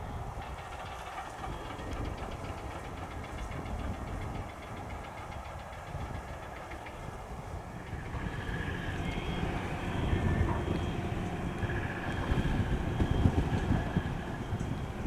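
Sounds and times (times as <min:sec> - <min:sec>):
tow tractor diesel engine running: 0:00.0 - 0:15.0.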